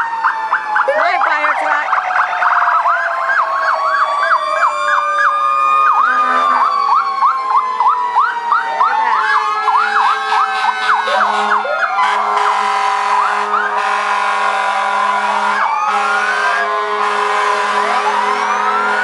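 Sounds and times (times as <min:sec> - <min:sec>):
fire truck sirens: 0:00.0 - 0:19.0.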